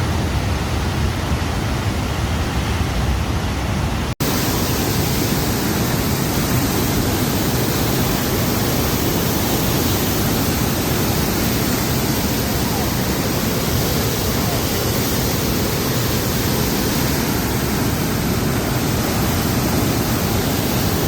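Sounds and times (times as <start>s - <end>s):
loud steady rushing noise: 0.0s - 21.0s.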